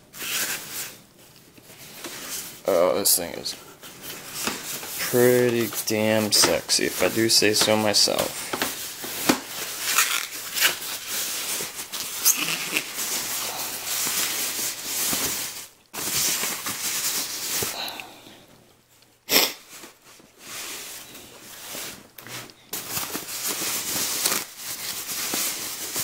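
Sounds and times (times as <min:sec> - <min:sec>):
packing sleeve rustling: 0:00.1 - 0:18.0, 0:19.7 - 0:26.0.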